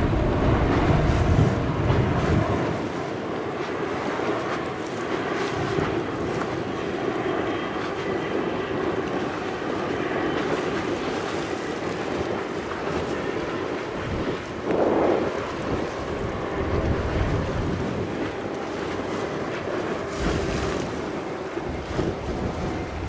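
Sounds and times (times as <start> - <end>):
jet engines roaring: 0.0 - 23.0
wind buffeting microphone: 0.0 - 23.0.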